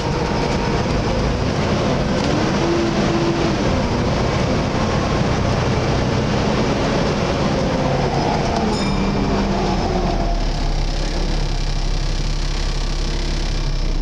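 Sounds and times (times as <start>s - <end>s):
bus diesel engine: 0.0s - 14.0s.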